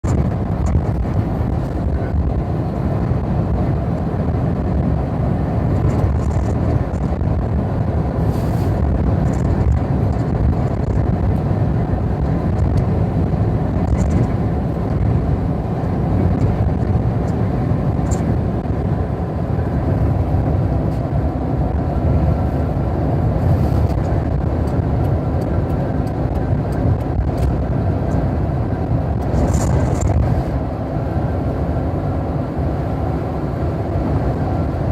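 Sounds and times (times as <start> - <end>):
car road noise at speed: 0.0 - 34.9.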